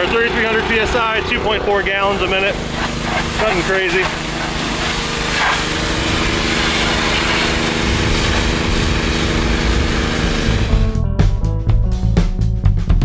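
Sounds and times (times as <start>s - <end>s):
high-pressure water jet hissing: 0.0s - 10.8s
pressure washer engine humming: 0.0s - 11.0s.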